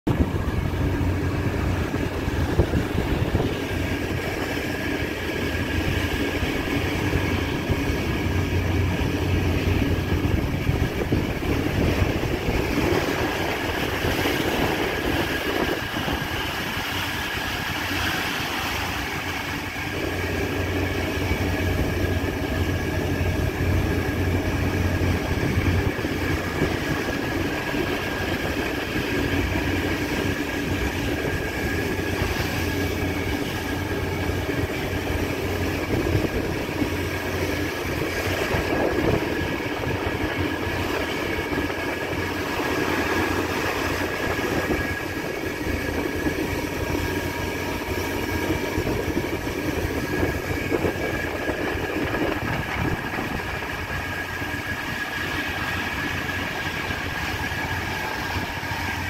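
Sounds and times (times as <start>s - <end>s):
ship engine rumble: 0.0s - 59.0s
sea water rushing along hull: 0.1s - 59.0s
thin steady whine: 0.1s - 59.0s.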